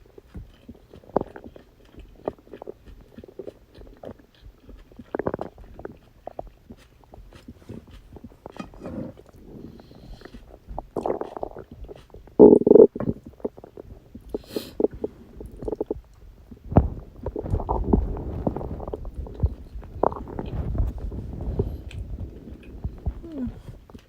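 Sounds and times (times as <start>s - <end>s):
stomach gurgling: 0.0s - 24.0s.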